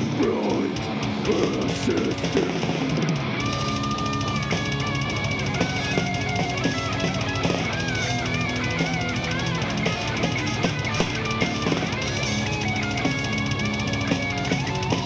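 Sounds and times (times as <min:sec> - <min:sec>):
live metal band playing: 0:00.0 - 0:15.0
rapid drumming: 0:00.0 - 0:15.0
lead guitar melody: 0:00.7 - 0:15.0.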